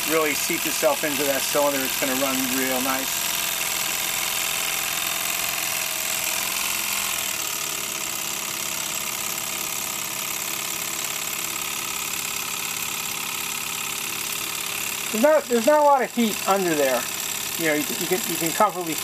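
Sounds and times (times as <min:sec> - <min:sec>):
model steam engine chuffing: 0:00.0 - 0:19.0.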